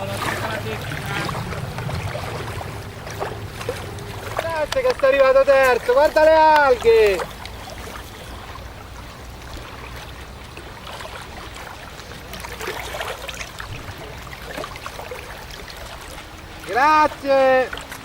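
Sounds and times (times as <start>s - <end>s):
small waves lapping and splashing: 0.0s - 18.0s.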